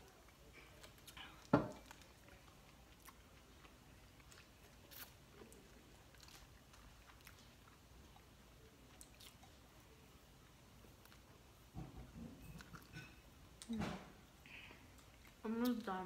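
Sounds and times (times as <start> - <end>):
people chewing and biting: 0.0 - 13.8.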